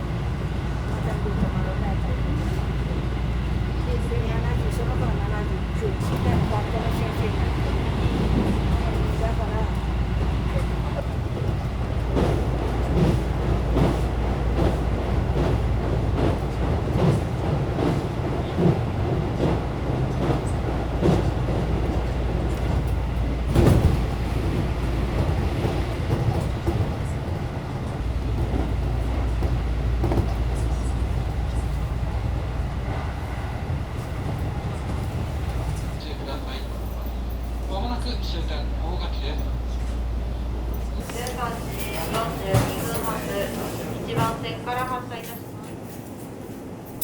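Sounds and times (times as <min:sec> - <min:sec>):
train rumble inside carriage: 0:00.0 - 0:47.0.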